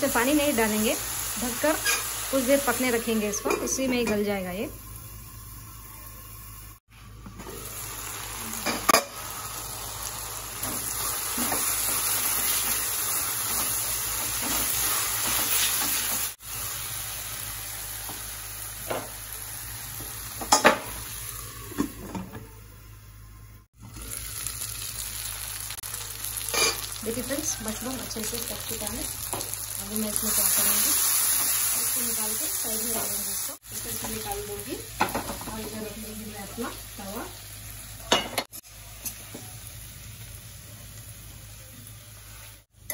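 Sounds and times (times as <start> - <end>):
mushrooms and onion sizzling: 0.0 - 22.9, 23.7 - 42.9.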